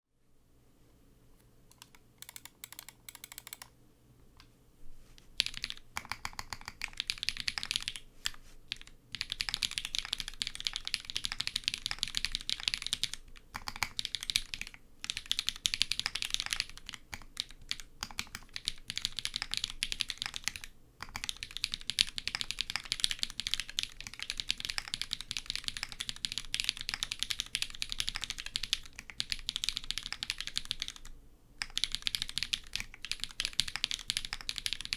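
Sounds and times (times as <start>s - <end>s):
mechanical keyboard typing: 1.7s - 3.7s, 5.4s - 34.9s.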